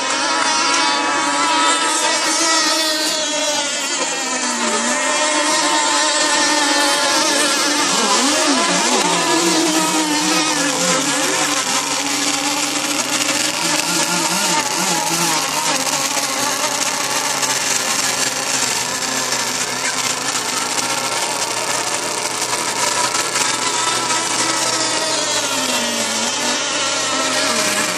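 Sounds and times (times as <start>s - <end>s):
motorboat engine running: 0.0s - 27.9s.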